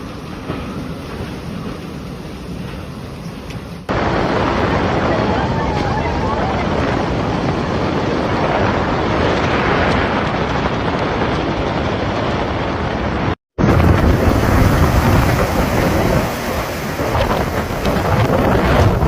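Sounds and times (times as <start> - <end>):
heavy rain: 0.0 - 19.0
storm wind roaring on microphone: 0.0 - 19.0.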